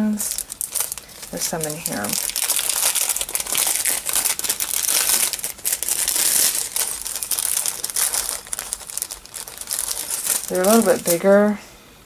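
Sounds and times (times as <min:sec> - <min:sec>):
plastic packet crinkling: 0:00.0 - 0:11.6.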